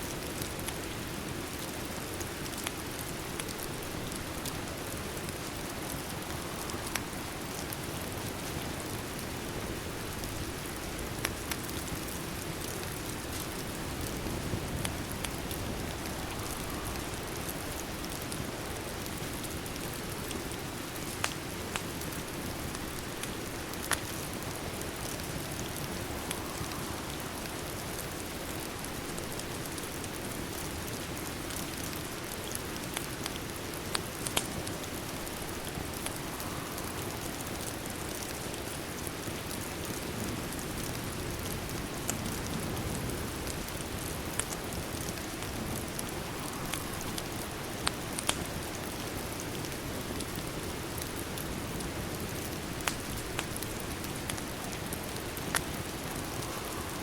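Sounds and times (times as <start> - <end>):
steady rain falling: 0.0 - 57.0
wood fire crackling: 0.0 - 57.0.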